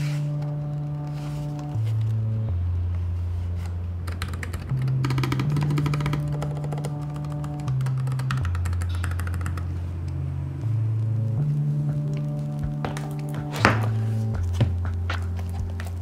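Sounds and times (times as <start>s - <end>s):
background music with bass line: 0.0s - 16.0s.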